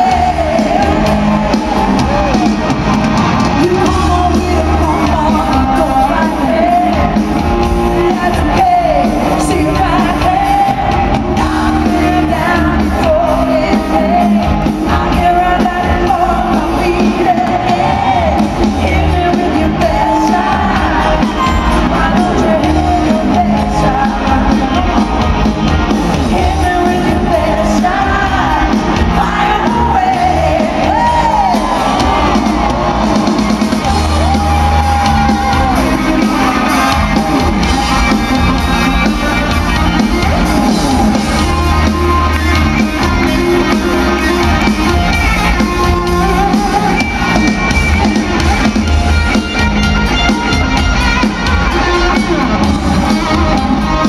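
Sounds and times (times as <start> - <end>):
woman singing live: 0.0 - 2.4, 3.5 - 48.6
amplified rock band: 0.0 - 54.0.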